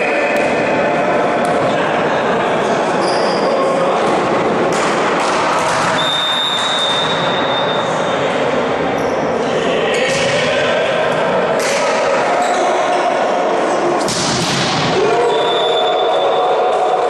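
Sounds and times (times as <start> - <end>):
echoing din of players and spectators: 0.0 - 17.0.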